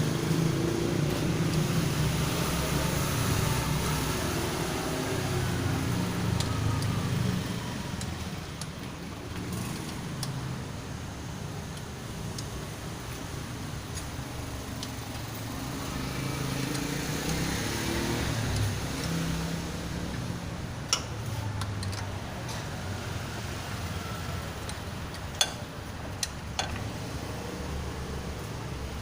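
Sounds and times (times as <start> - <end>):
vehicle passing: 0.0 - 8.6, 9.2 - 25.8
road traffic noise: 0.0 - 29.0.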